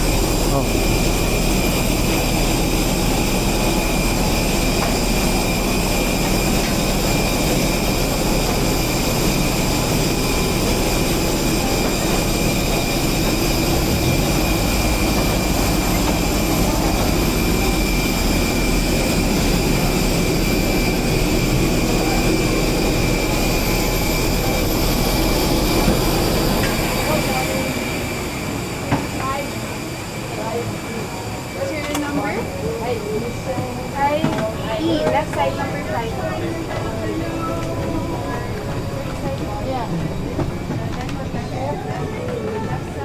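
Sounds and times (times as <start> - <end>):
jet engine roar: 0.0 - 42.8
high jet whine: 0.0 - 43.0.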